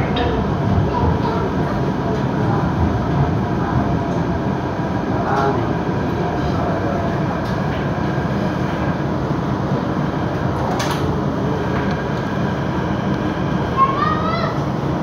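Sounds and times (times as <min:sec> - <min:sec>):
train passing alongside: 0:00.0 - 0:15.0
train running rumble: 0:00.0 - 0:15.0.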